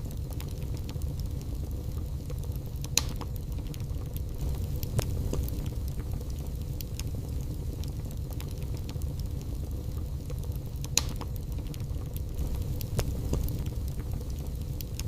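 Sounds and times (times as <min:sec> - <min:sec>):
fire crackling and popping: 0:00.0 - 0:15.0
low rumble of flame: 0:00.0 - 0:15.0.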